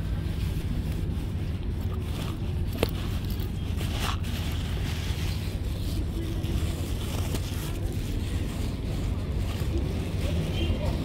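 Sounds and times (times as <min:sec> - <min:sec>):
low wind rumble on microphone: 0:00.0 - 0:11.0.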